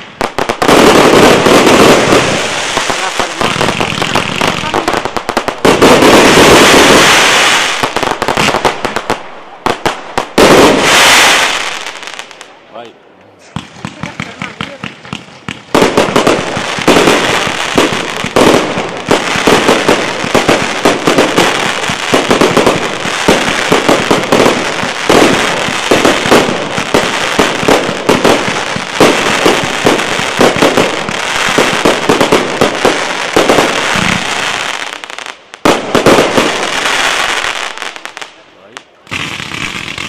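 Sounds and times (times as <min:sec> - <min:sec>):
fireworks bangs: 0:00.0 - 0:12.6, 0:13.4 - 0:40.0
fireworks crackling: 0:00.0 - 0:40.0.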